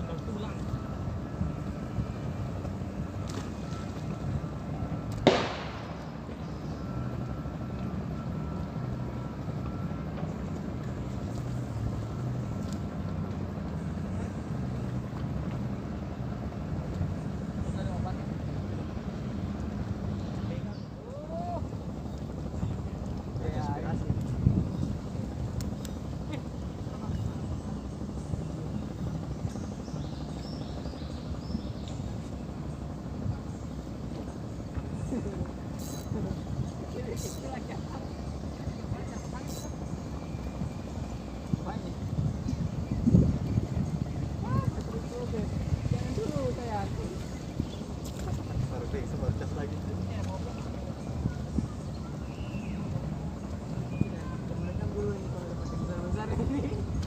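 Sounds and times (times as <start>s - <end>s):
boat motor running: 0.0s - 57.0s
steady low rumble: 0.0s - 57.0s.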